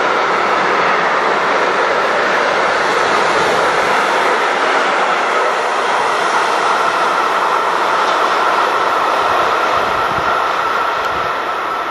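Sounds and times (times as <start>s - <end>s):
train wagons rolling on rails: 0.0s - 11.9s.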